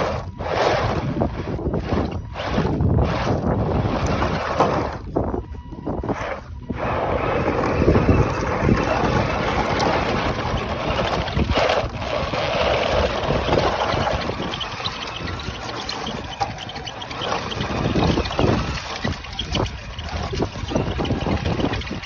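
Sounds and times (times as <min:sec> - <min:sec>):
toy truck motor running: 0:00.0 - 0:22.0
tyres crunching on gravel: 0:00.0 - 0:22.0
wind buffeting microphone: 0:00.0 - 0:22.0.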